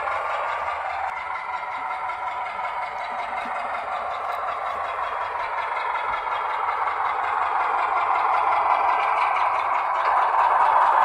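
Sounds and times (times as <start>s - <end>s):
thin diesel engine sound from speaker: 0.0s - 11.0s.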